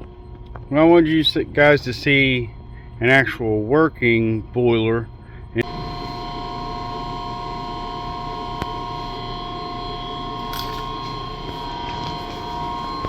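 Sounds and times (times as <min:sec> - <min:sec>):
machinery humming: 0:00.0 - 0:13.0
whining tones: 0:00.0 - 0:13.0.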